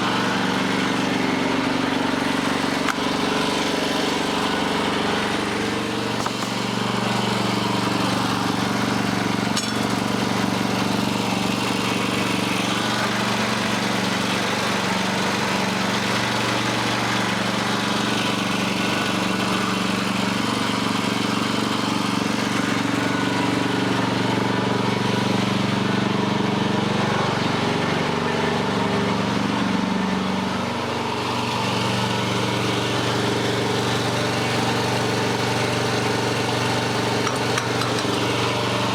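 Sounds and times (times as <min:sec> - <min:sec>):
sawmill engine running under load: 0:00.0 - 0:38.9.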